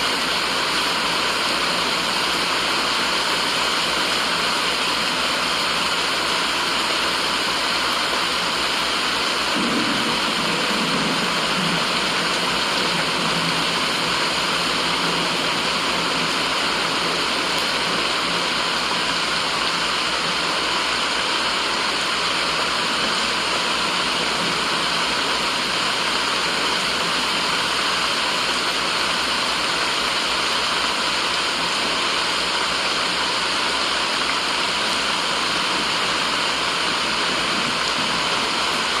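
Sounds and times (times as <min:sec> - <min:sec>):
white noise hiss: 0:00.0 - 0:39.0.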